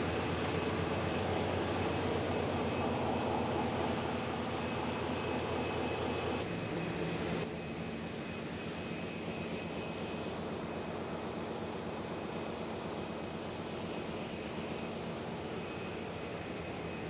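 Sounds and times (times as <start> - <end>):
engine room machinery drone: 0.0 - 17.0.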